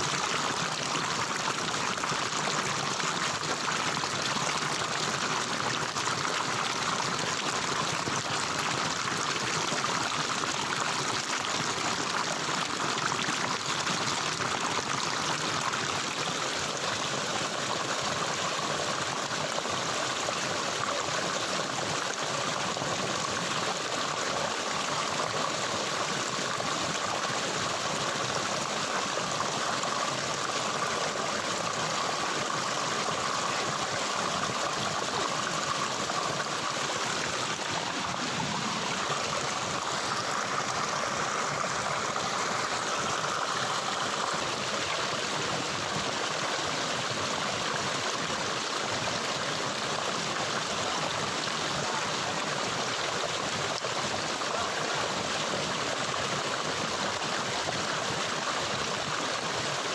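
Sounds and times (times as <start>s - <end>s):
water flowing steadily: 0.0s - 59.9s.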